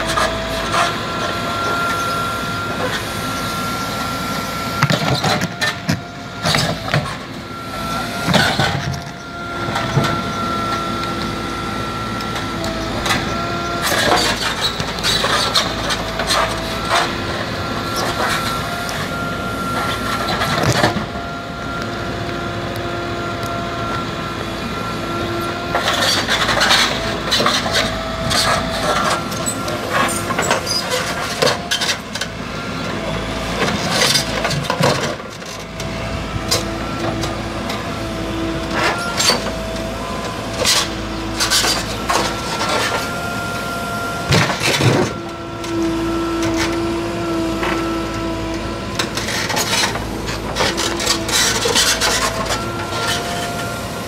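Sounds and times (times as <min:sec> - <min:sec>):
diesel engine under load: 0:00.0 - 0:54.0
hydraulic whine: 0:00.0 - 0:54.0.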